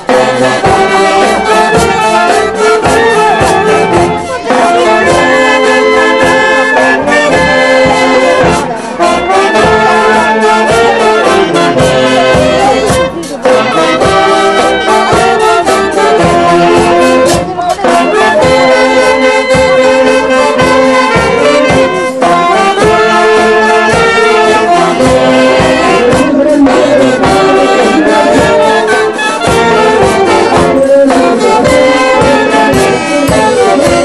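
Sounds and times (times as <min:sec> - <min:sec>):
saxophones and trumpets playing: 0:00.0 - 0:34.0
timbales and bass drum beat: 0:00.0 - 0:34.0.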